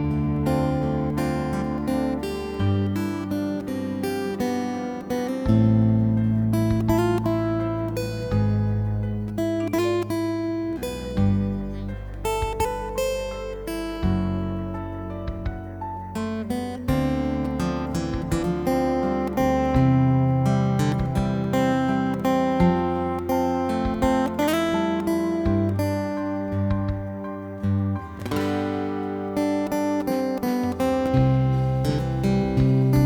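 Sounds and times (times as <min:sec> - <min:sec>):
plucked string music: 0:00.0 - 0:33.0
ukulele and guitars playing: 0:00.0 - 0:33.0.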